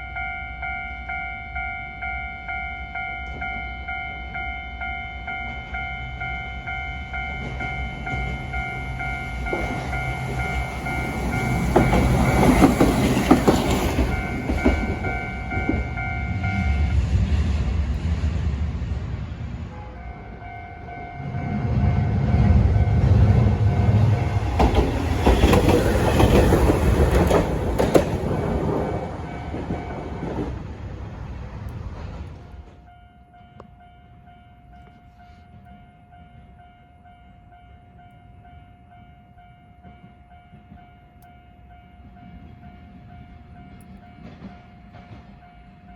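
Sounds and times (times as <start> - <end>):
level crossing warning bell: 0.0 - 17.1, 19.8 - 30.5, 32.8 - 45.9
tram rumbling and clattering: 0.0 - 45.9.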